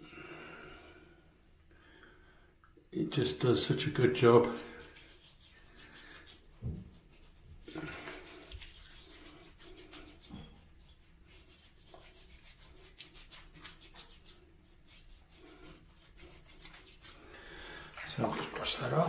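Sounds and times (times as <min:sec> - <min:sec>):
hands rubbing skin: 0:03.4 - 0:19.0.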